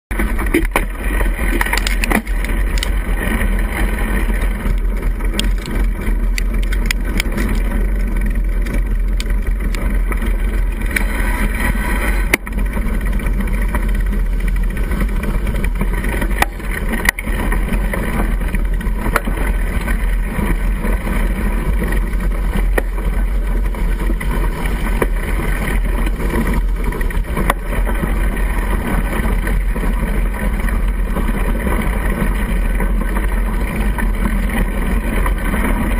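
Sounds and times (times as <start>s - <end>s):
low rumble: 0.1s - 35.9s
steady gurgling noise: 0.1s - 35.9s.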